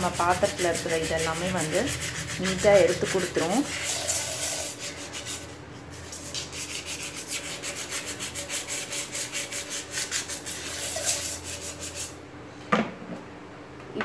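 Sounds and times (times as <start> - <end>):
paper scrub scouring metal pan: 0.0 - 12.2.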